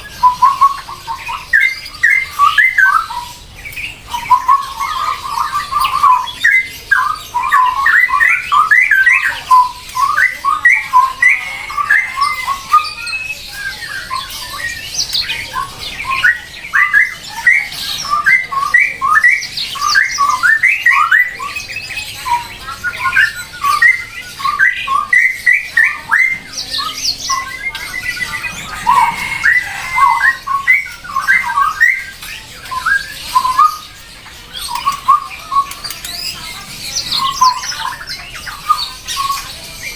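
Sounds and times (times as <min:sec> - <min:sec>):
birds squawking and chattering: 0:00.0 - 0:39.9.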